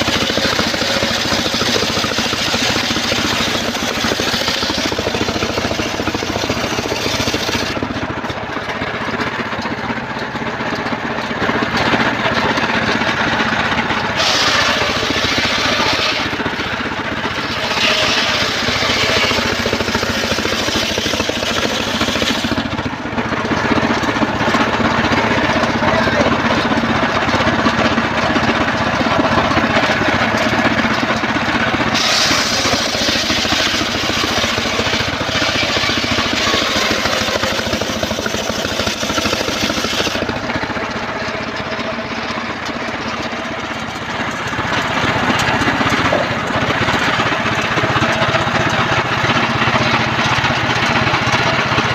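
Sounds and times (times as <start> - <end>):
circular saw sawing logs: 0.0 - 9.6, 11.7 - 51.9
engine droning: 0.0 - 51.9.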